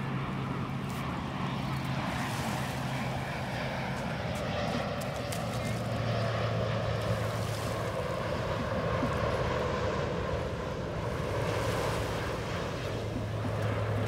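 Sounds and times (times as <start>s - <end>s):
jet airliner engine noise: 0.0s - 14.0s.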